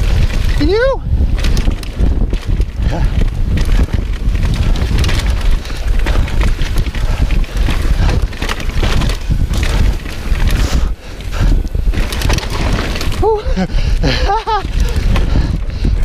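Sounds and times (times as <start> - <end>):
bike rattling with clicks: 0.0 - 16.0
tyres rumbling over dirt: 0.0 - 16.0
wind buffeting microphone: 0.0 - 16.0.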